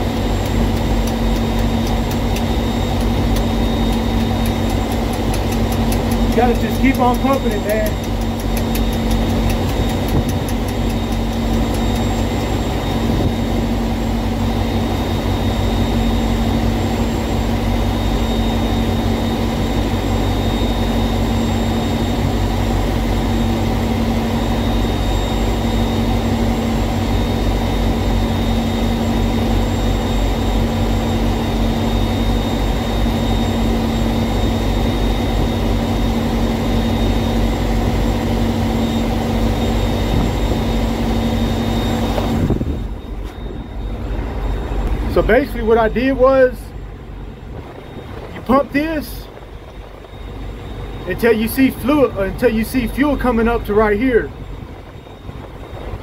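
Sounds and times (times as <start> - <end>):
large engine droning: 0.0 - 56.0
steady hum: 0.0 - 56.0.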